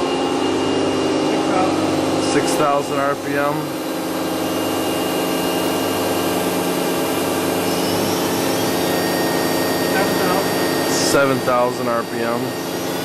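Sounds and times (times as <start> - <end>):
machine spindle whining: 0.0 - 13.0.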